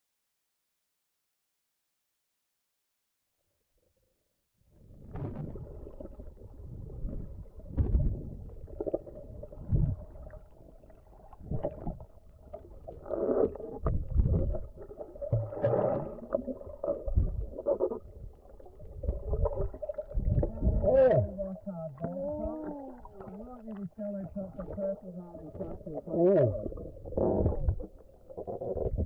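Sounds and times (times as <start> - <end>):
underwater water rumbles and knocks: 4.8 - 29.0.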